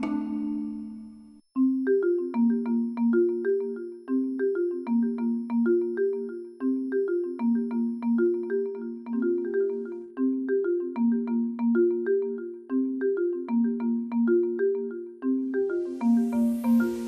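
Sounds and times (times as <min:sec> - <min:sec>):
mallet percussion tune: 0:00.0 - 0:17.0.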